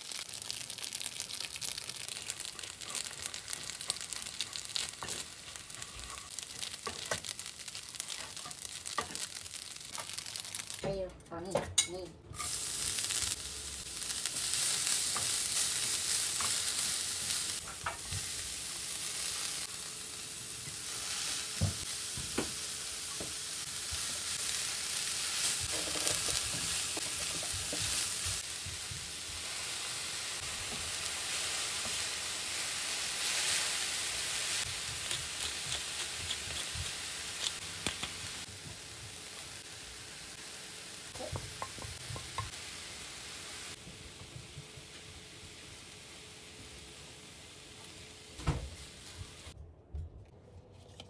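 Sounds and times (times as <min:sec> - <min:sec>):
vegetables sizzling in a skillet: 0:00.0 - 0:10.8, 0:12.4 - 0:49.6.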